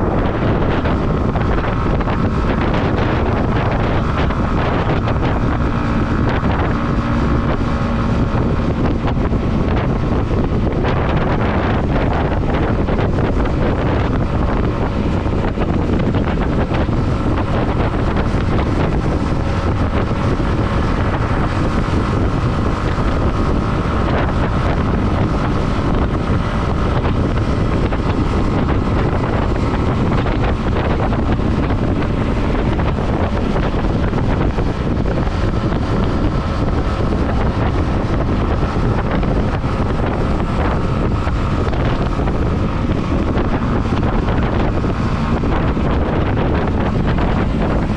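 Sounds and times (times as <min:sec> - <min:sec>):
motorcycle engine running: 0:00.0 - 0:47.9
wind buffeting microphone: 0:00.0 - 0:47.9.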